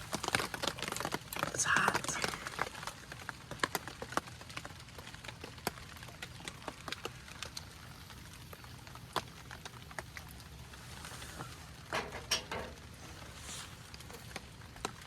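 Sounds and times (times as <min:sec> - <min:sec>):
raindrops tapping: 0:00.0 - 0:15.0.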